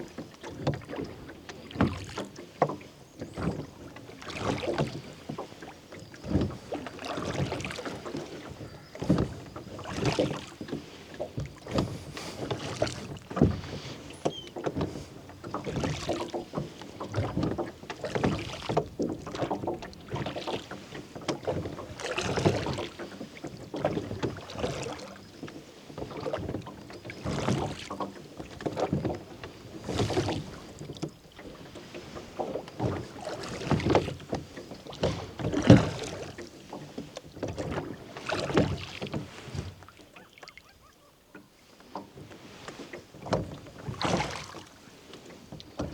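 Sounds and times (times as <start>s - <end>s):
oars splashing in water: 0.0s - 45.9s.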